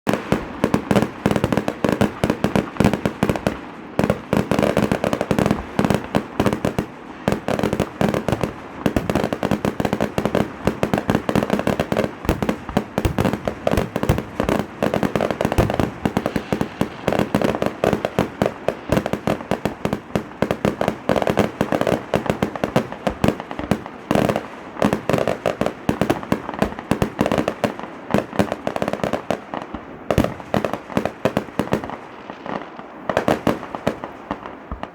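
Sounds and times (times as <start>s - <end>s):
fireworks bangs: 0.1s - 34.9s.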